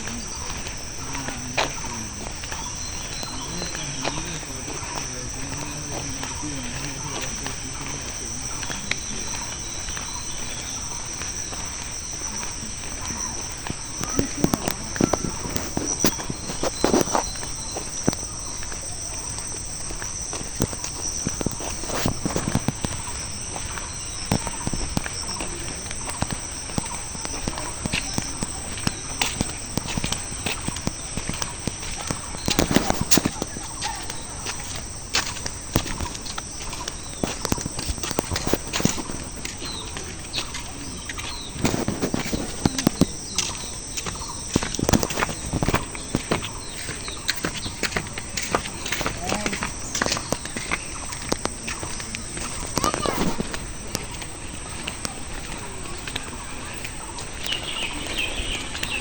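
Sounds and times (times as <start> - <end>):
footsteps on asphalt: 0.0 - 59.0
insects chirring: 0.0 - 59.0.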